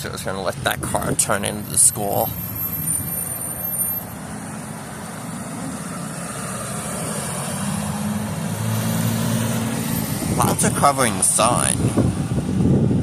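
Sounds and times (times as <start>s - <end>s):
vehicle engine hum approaching: 0.0s - 13.0s
wind noise: 0.2s - 4.6s, 6.8s - 13.0s.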